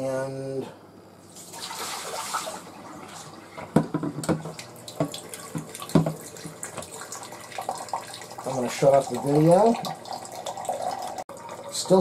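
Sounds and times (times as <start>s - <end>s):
water dispenser running into pitcher: 1.4s - 12.0s.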